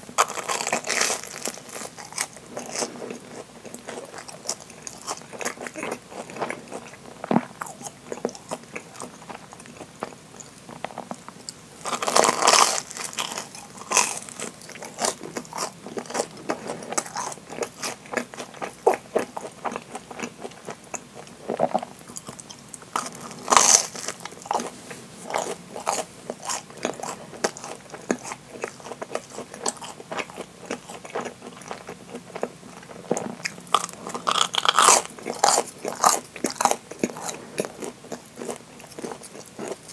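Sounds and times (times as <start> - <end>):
crunchy fried bread chewing: 0.0 - 39.9.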